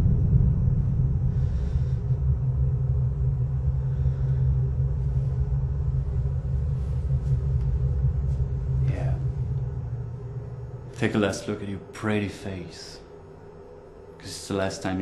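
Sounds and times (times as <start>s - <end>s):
loud low rumble: 0.0s - 14.4s
faint hum: 0.0s - 15.0s.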